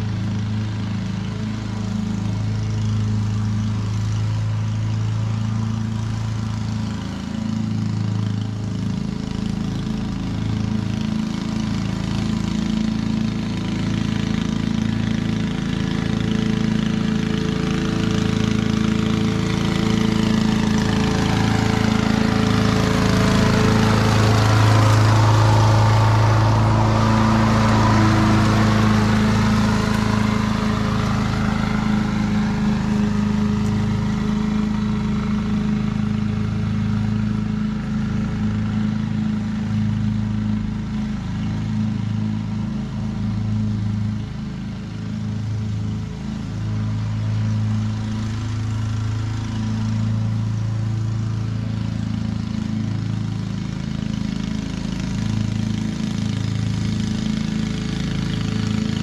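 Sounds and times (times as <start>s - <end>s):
lawn mower engine mowing grass: 0.0s - 59.0s.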